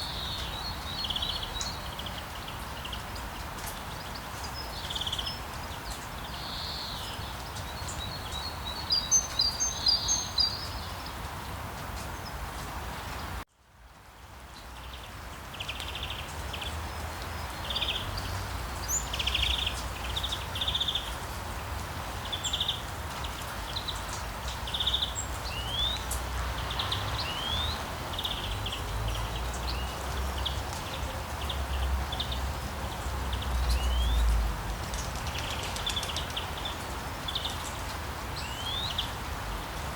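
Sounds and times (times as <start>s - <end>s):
small birds chirping: 0.0s - 12.6s, 14.5s - 39.9s
steady rain: 0.0s - 39.9s.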